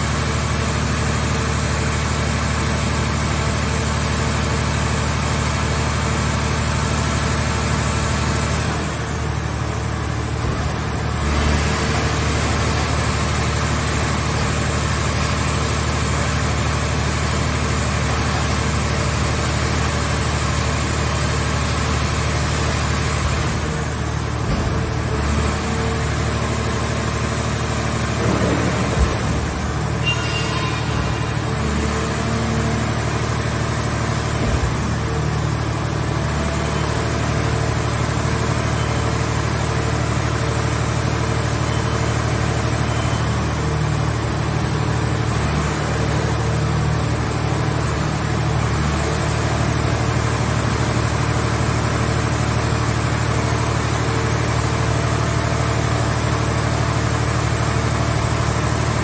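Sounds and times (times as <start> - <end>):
hydraulic pump drone and whine: 0.0 - 59.0.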